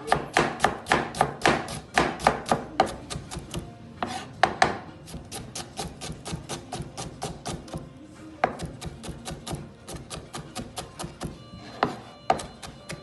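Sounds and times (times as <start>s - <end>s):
knife chopping on cutting board: 0.0s - 7.8s, 8.4s - 13.0s.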